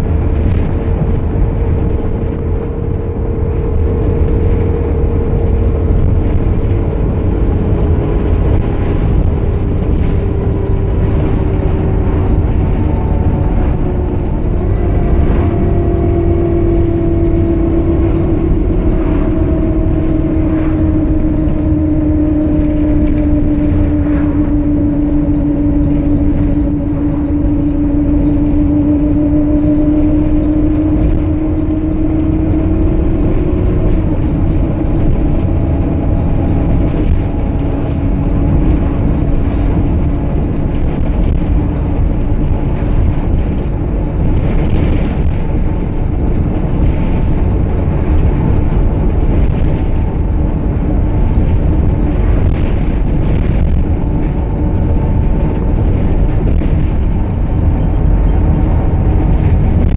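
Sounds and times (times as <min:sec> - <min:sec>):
bus diesel engine running: 0:00.0 - 0:59.9
road rumble: 0:00.0 - 0:59.9
steady whine: 0:00.0 - 0:59.9.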